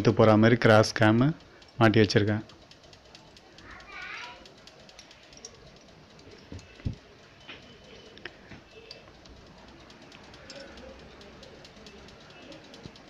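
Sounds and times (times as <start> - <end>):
light metal clicks: 1.2 - 13.0.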